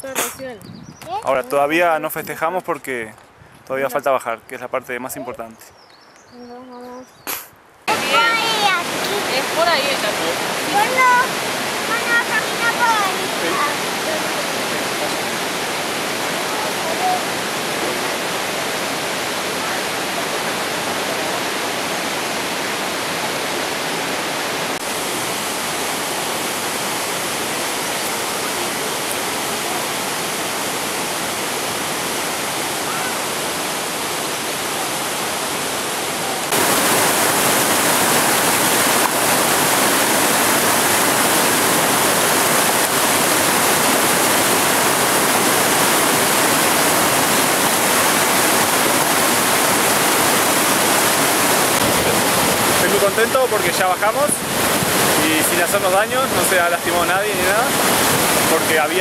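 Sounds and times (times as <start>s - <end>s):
waterfall roaring: 7.9s - 59.0s.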